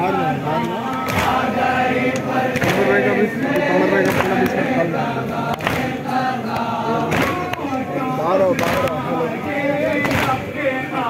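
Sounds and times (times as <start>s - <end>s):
men chanting in unison: 0.0s - 11.0s
sharp rhythmic beat: 0.8s - 11.0s.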